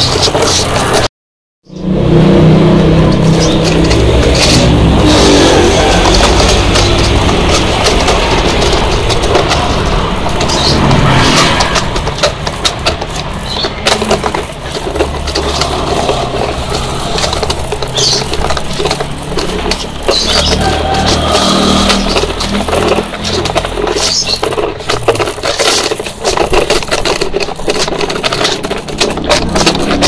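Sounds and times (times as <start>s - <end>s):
short clicks and rattles: 3.0s - 30.0s.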